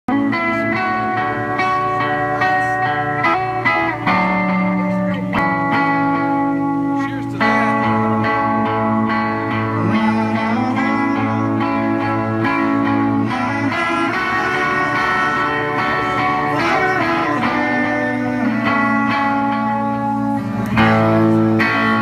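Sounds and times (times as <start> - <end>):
electric guitar chords: 0.1 - 22.0.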